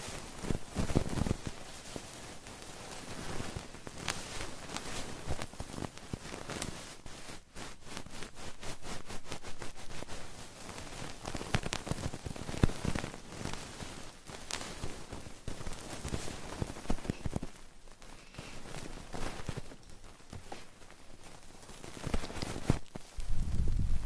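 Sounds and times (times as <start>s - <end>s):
crackling at microphone: 0.0s - 24.0s
scratching at microphone: 0.0s - 24.0s.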